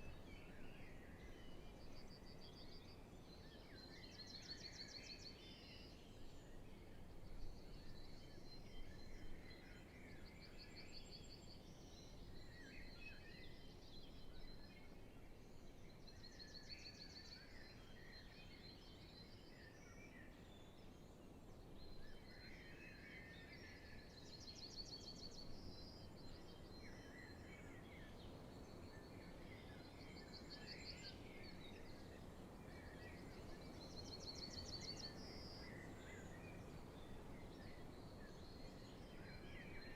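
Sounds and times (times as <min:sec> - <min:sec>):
songbirds singing lower phrases: 0:00.0 - 0:39.9.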